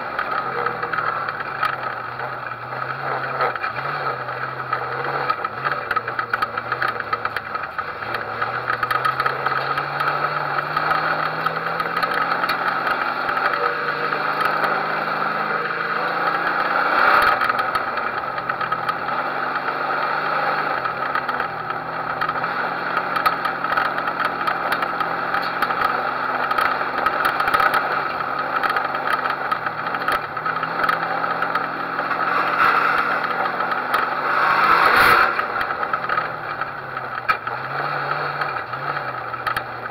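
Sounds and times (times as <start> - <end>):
race car engine at low revs: 0.0 - 39.9
wind and road noise: 0.0 - 39.9.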